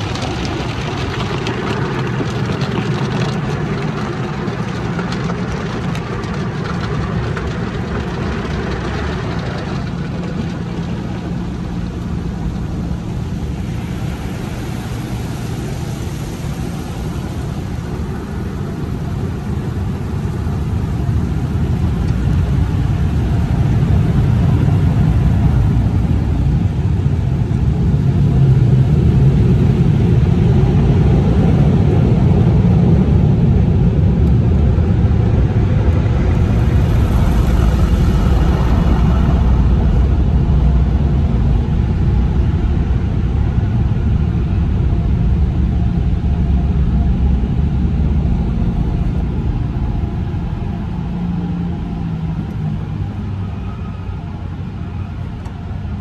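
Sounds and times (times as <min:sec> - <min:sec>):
car wash machinery rumbling: 0:00.0 - 0:56.0.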